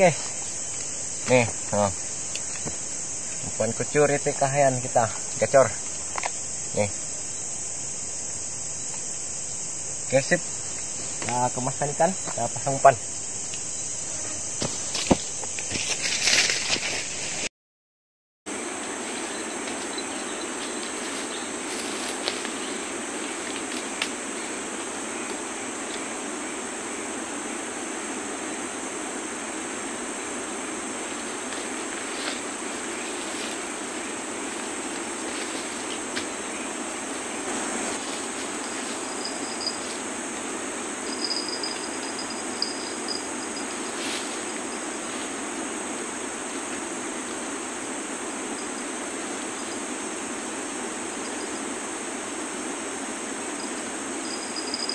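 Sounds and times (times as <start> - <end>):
insects buzzing and chirring: 0.0 - 17.5, 18.5 - 54.9.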